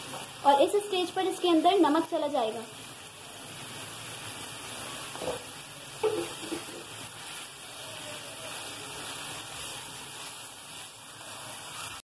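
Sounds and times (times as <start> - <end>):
liver sizzling in oil: 0.0 - 12.0.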